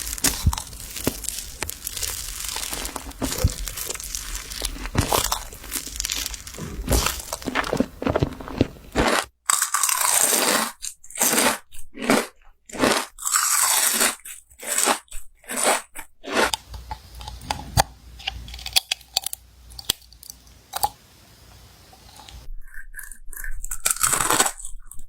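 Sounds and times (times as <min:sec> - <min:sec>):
crunchy food chewing: 0:00.0 - 0:25.0.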